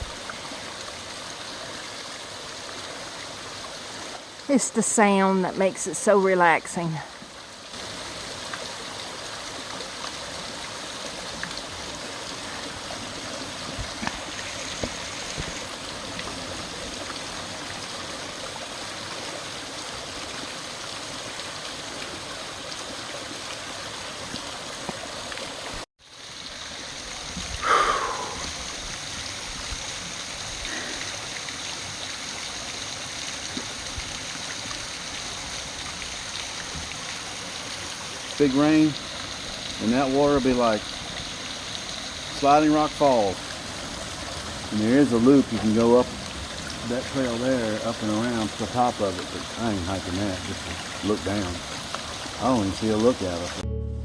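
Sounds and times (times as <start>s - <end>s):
waterfall and creek rushing: 0.0s - 53.6s.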